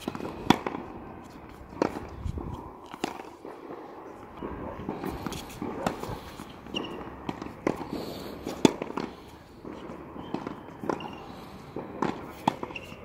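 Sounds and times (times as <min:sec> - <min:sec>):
racket striking tennis ball: 0:00.0 - 0:03.5, 0:04.8 - 0:11.2, 0:11.8 - 0:13.0
tennis ball bouncing: 0:00.0 - 0:03.5, 0:04.8 - 0:11.2, 0:11.8 - 0:13.0.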